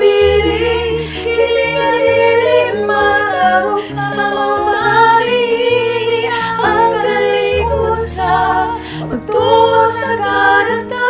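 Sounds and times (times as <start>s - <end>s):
electronic keyboard accompaniment: 0.0s - 11.0s
women singing in harmony: 0.0s - 11.0s.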